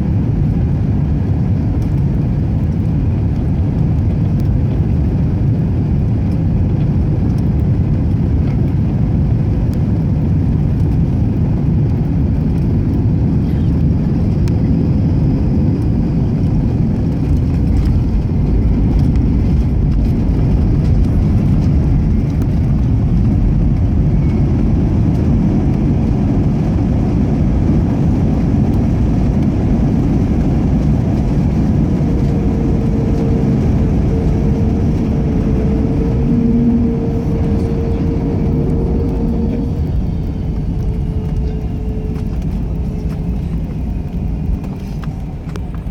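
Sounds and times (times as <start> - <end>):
vehicle interior rumble: 0.0 - 45.9
steady whine tone: 7.1 - 45.9.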